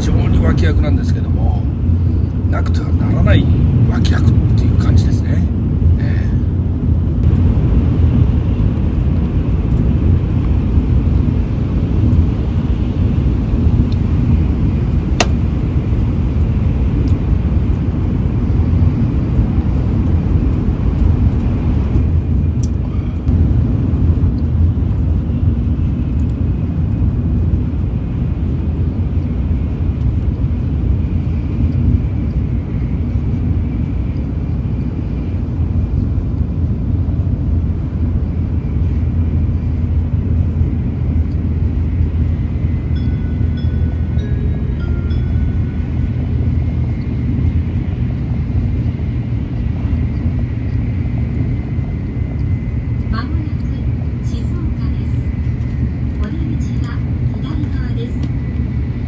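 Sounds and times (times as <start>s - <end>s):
train running low rumble: 0.0s - 59.0s.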